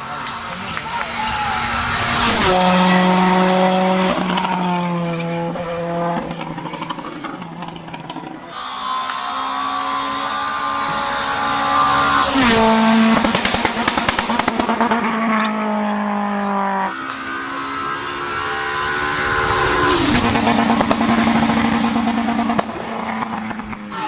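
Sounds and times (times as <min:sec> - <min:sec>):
rally car engines passing at speed: 0:00.0 - 0:24.0.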